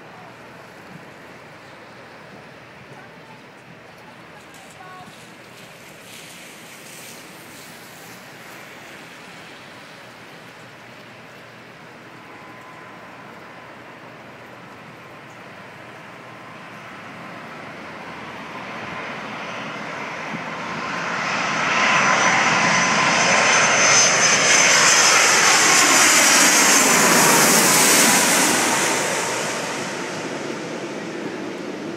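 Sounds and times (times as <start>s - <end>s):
jet airliner passing overhead: 0.0s - 31.9s.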